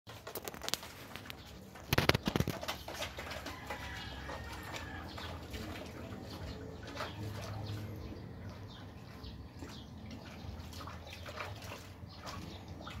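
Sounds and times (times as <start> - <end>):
dog splashing in water: 0.2 - 13.0.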